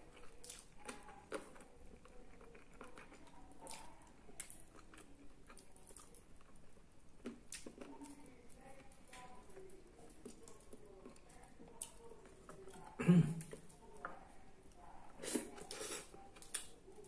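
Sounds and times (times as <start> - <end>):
person chewing food: 0.0 - 14.2, 15.2 - 16.8.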